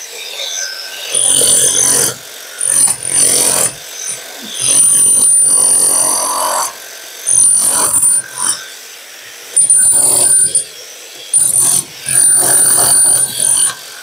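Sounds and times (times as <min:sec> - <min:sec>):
wall chaser cutting brick: 0:00.0 - 0:14.0.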